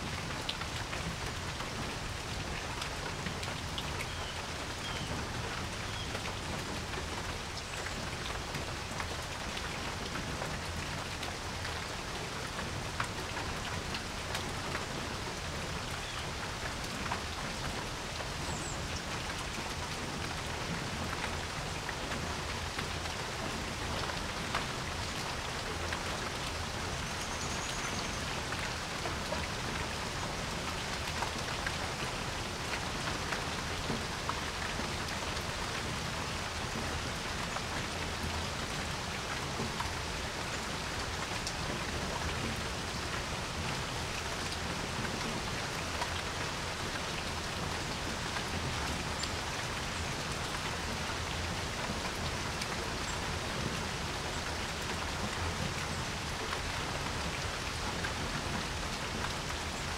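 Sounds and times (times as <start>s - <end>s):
raindrops tapping close by: 0.0s - 59.7s
steady rain hiss: 0.0s - 59.9s.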